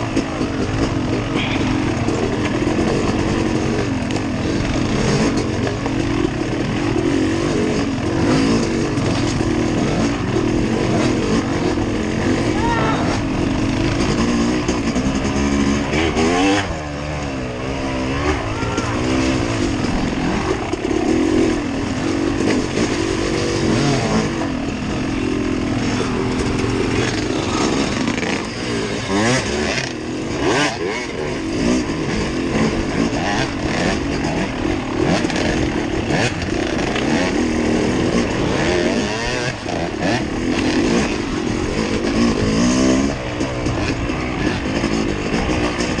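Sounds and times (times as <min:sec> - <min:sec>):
constant rushing noise: 0:00.0 - 0:46.0
off-road vehicle engine revving: 0:00.0 - 0:46.0.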